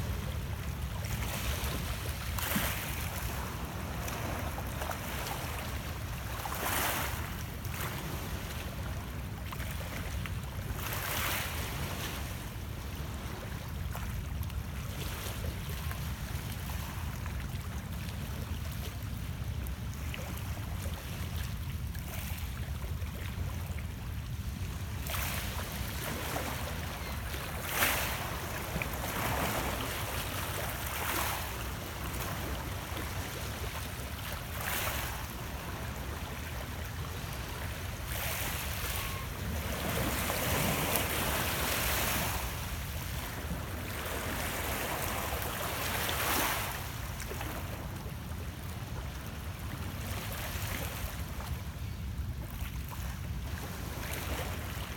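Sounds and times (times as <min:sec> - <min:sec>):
waves lapping against rocks: 0:00.1 - 0:51.8.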